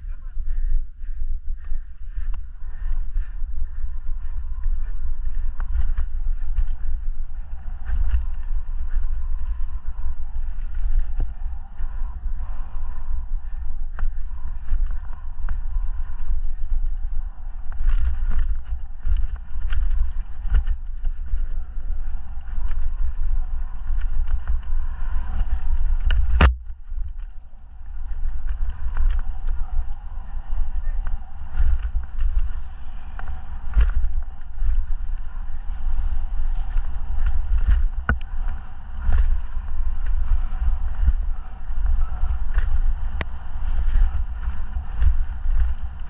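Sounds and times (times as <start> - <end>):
wind rumbling on microphone: 0.0 - 46.0.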